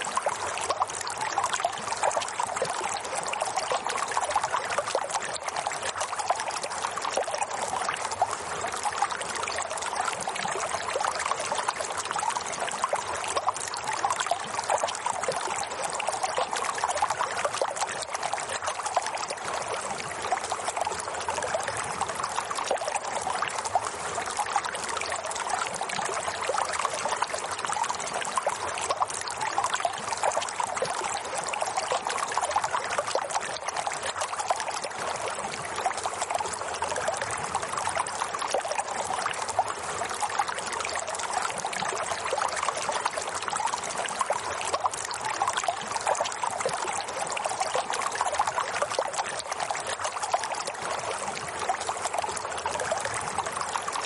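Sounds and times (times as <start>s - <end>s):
water trickling and babbling: 0.0s - 54.0s.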